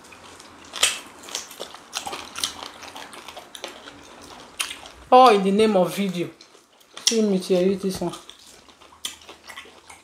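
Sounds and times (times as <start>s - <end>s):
chewing and biting food: 0.0s - 10.0s.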